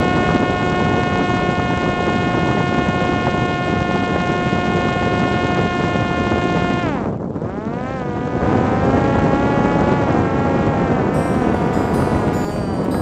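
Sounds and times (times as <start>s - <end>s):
wind rush on microphone: 0.0s - 13.0s.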